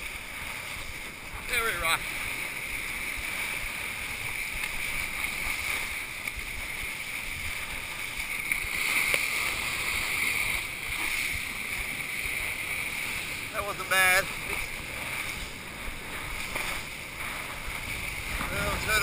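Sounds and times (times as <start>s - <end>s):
water rushing under board: 0.0s - 19.0s
wind buffeting camera: 0.0s - 19.0s.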